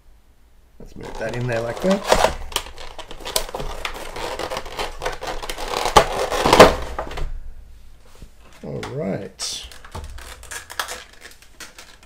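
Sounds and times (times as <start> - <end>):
plastic blister tray crinkling: 0.8 - 7.3, 8.4 - 12.0
plastic crackles: 0.8 - 7.3, 8.3 - 12.0.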